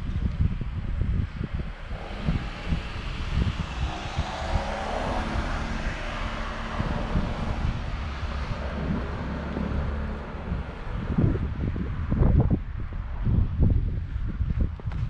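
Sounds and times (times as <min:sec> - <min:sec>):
wind buffeting microphone: 0:00.0 - 0:15.0
motor vehicle passing: 0:00.9 - 0:13.9.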